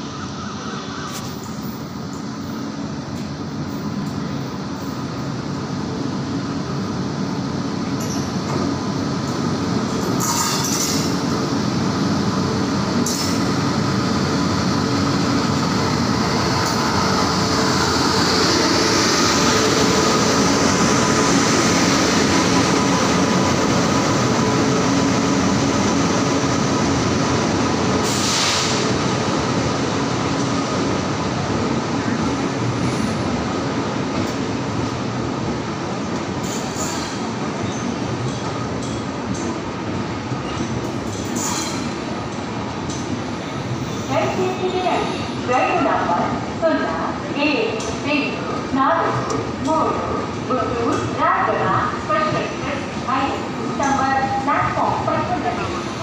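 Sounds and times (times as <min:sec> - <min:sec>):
train rumble and wheel noise: 0:00.0 - 0:56.0.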